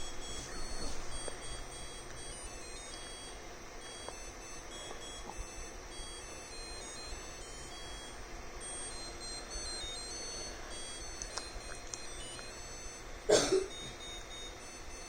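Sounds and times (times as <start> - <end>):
dishwasher chime of electronic beeps: 0.0 - 15.0.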